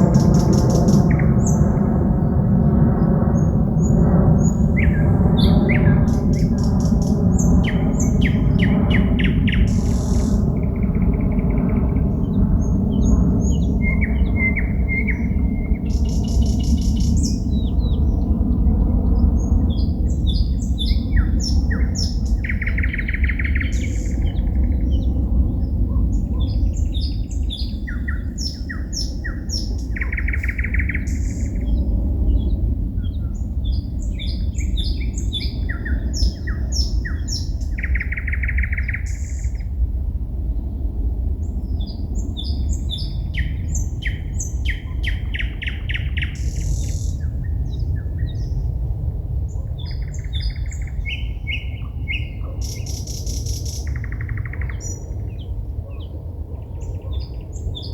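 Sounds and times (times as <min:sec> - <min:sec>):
songbird singing: 0:00.0 - 0:39.7, 0:41.4 - 0:48.7, 0:49.5 - 0:57.9.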